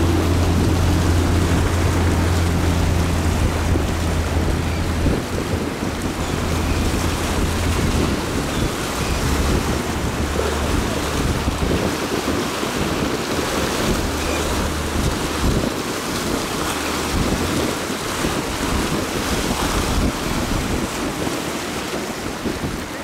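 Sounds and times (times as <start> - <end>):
boat wake water rushing: 0.0 - 23.0
wind buffeting microphone: 0.0 - 23.0.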